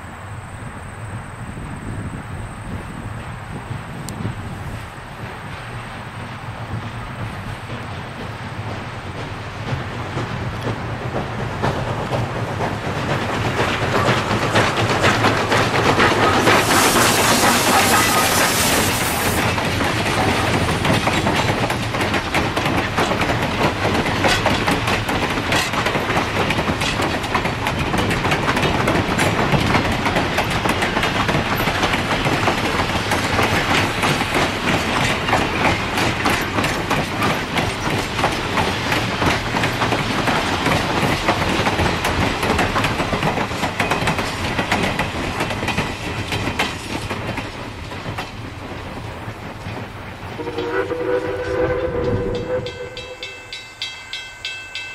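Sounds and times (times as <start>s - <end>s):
train wheels clattering on rails: 2.0s - 54.9s.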